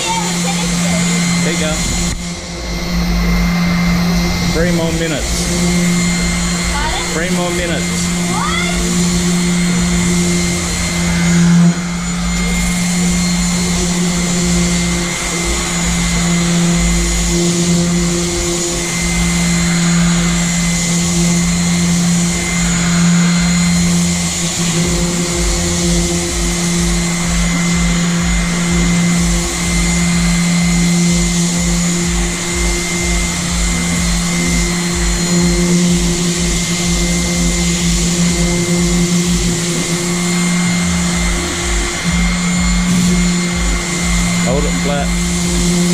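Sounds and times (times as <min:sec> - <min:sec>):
electric power sander running: 0:00.0 - 0:45.9.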